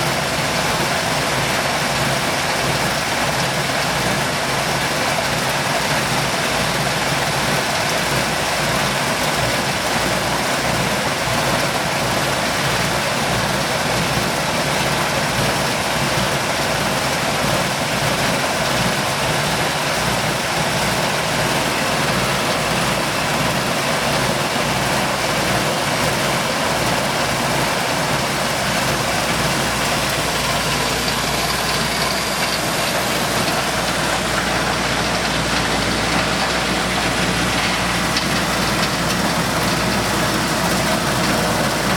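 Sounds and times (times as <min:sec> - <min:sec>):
milling machine running: 0:00.0 - 0:41.9.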